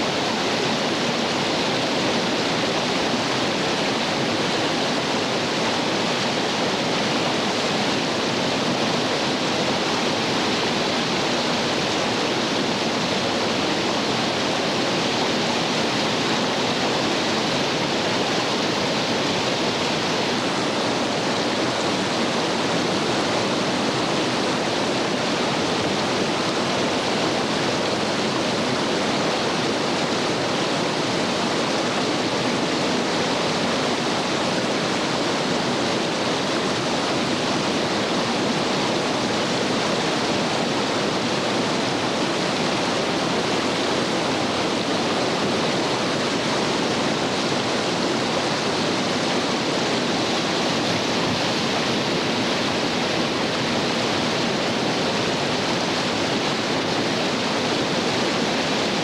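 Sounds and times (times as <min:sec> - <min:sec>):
whitewater rapids rushing: 0:00.0 - 0:59.0.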